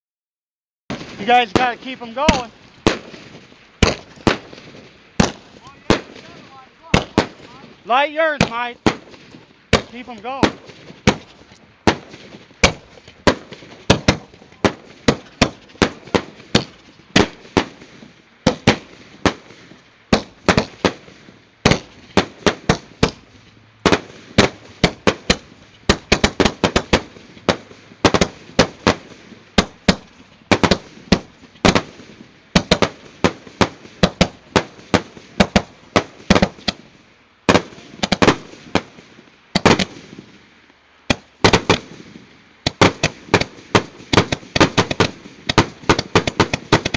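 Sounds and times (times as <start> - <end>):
fireworks popping and banging: 0.9 - 40.5, 41.1 - 46.9.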